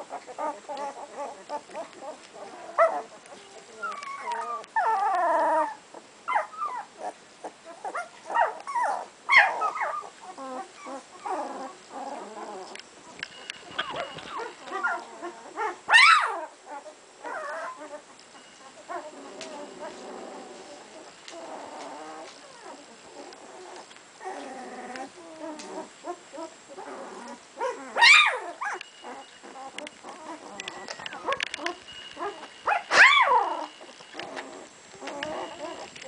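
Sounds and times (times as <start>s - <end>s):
puppies whimpering: 0.0s - 36.0s
soft low puppy sounds: 0.0s - 36.0s.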